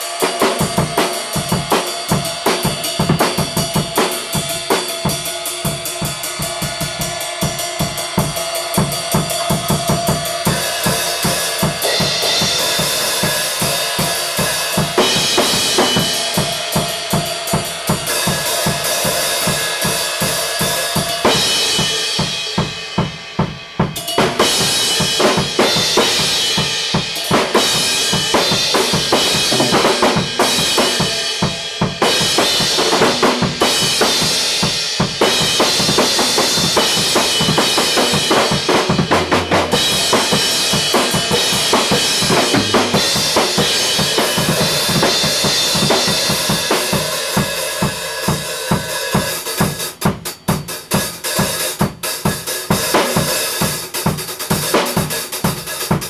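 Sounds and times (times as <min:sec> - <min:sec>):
cymbals washing: 0:00.0 - 0:56.0
drum kit solo: 0:00.0 - 0:56.0.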